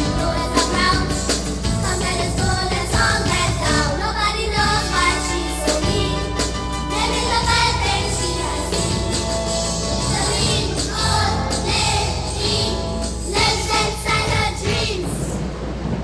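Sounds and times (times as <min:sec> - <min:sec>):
music with singing: 0:00.0 - 0:15.4.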